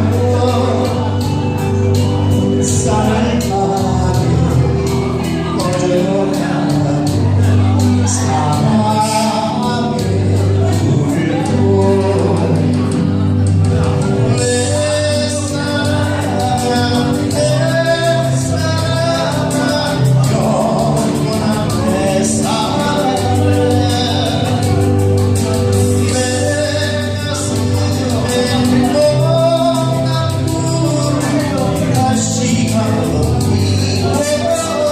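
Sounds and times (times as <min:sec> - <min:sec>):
bass notes: 0:00.0 - 0:34.9
person singing: 0:00.0 - 0:34.9.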